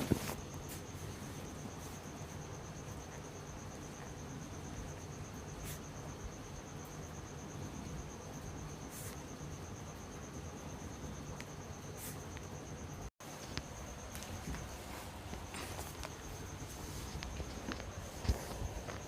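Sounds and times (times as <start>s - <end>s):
cricket trilling: 0.0s - 19.0s.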